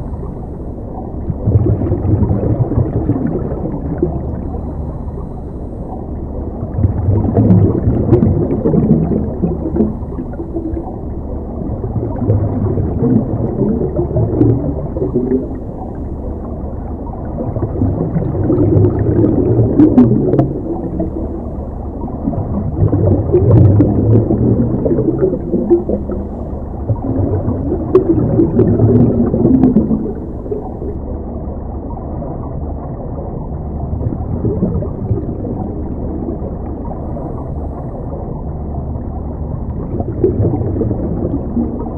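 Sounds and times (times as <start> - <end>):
underwater rumble and gurgling: 0.0 - 41.9.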